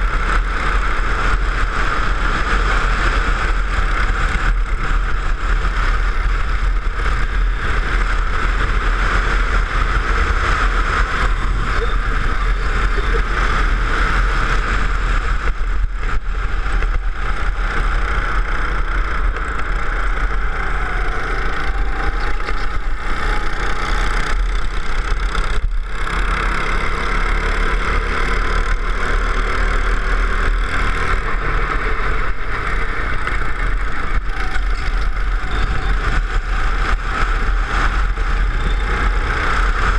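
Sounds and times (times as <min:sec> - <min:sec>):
wind rumble on microphone: 0:00.0 - 0:27.2, 0:27.8 - 0:39.9
go-kart engine at racing speed: 0:00.0 - 0:39.9.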